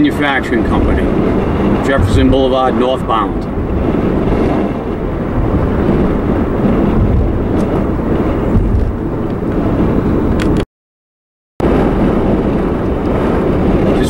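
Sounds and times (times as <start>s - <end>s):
car interior road noise: 0.0s - 10.6s, 11.6s - 14.0s.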